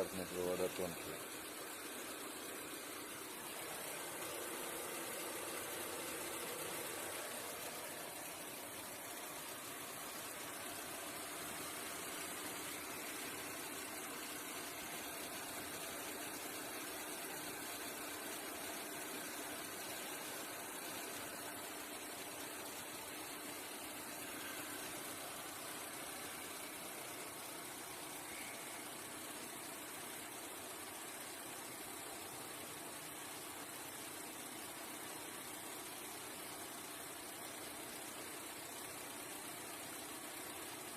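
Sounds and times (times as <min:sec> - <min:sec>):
car engine idling: 0:00.0 - 0:40.9
electric kettle heating hiss: 0:00.3 - 0:40.9.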